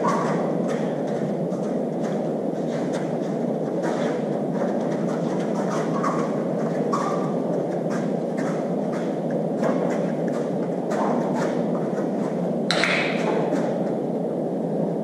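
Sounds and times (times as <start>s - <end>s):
rushing room noise: 0.0s - 15.0s.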